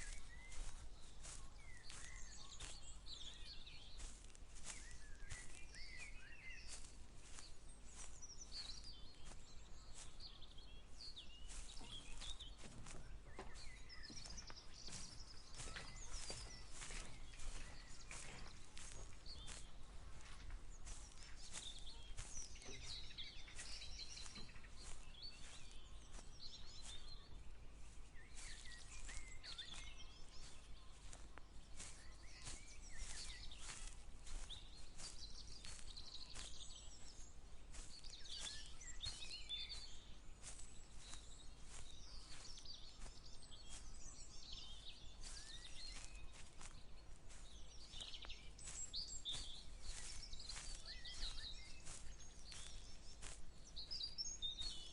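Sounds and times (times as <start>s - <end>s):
person's footsteps walking: 0.0s - 54.9s
songbirds singing and chirping: 0.0s - 54.9s.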